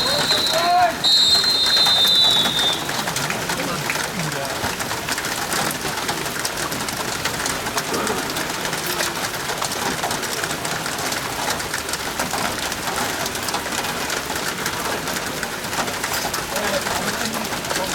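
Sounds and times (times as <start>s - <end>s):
heavy rain: 0.0s - 17.9s.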